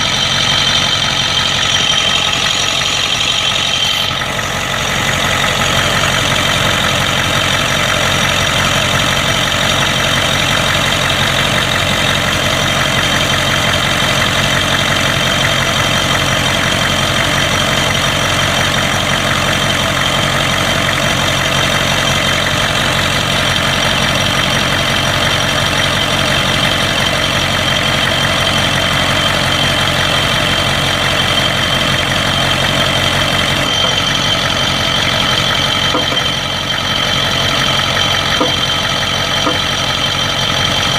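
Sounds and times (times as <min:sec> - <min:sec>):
diesel engine idling: 0:00.0 - 0:40.9
engine knocking: 0:00.0 - 0:40.9.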